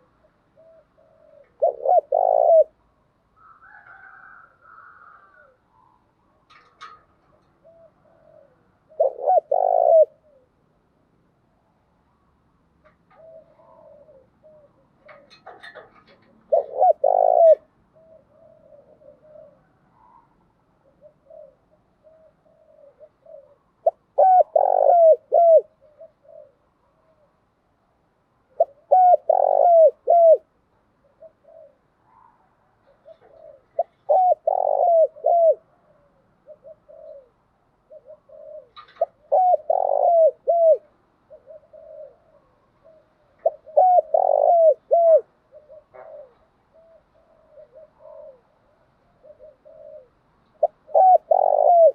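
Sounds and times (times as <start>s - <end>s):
dove cooing: 0.0s - 11.0s, 12.2s - 27.5s, 28.4s - 51.9s.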